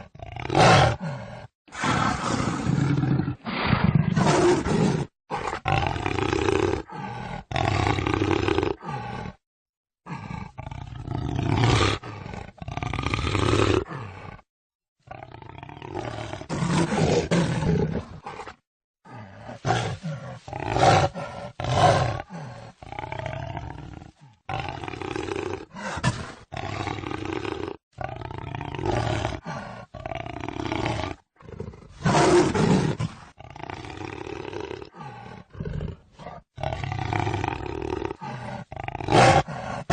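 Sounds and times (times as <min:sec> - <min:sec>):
jaguar roaring and growling: 0:00.0 - 0:09.4, 0:10.0 - 0:14.5, 0:15.1 - 0:39.9.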